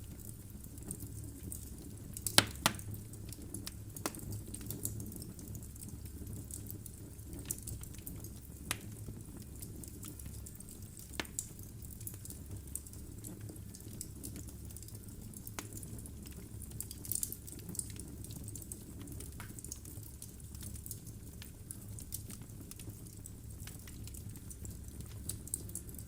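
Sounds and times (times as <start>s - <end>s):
low rumble of flame: 0.0s - 26.0s
logs crackling and popping: 0.2s - 26.0s.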